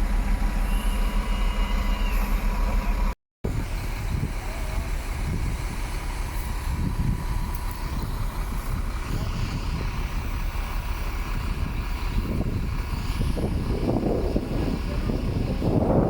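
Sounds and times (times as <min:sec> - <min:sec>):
heavy diesel machine rumbling: 0:00.0 - 0:16.0.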